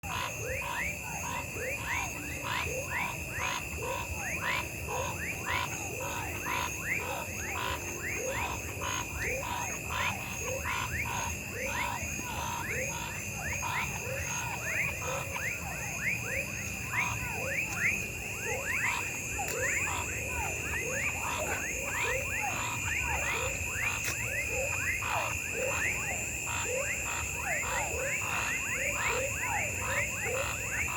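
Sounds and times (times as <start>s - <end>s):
pulsed frog calls: 0.0s - 30.9s
high insect trill: 0.1s - 30.9s.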